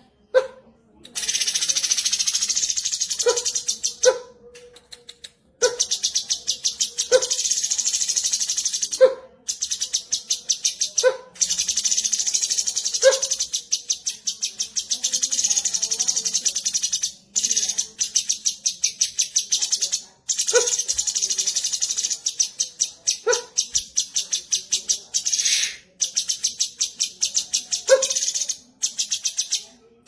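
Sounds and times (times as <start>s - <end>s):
bird fast high chattering: 1.1s - 4.2s, 5.0s - 29.7s.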